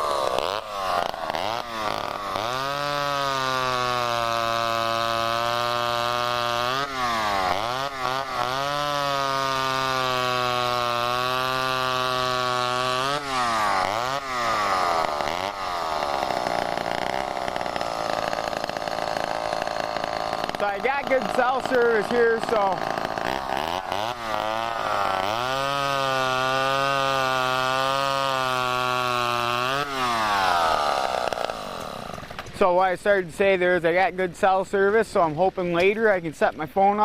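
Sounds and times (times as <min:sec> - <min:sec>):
chainsaw revving: 0:00.0 - 0:33.6.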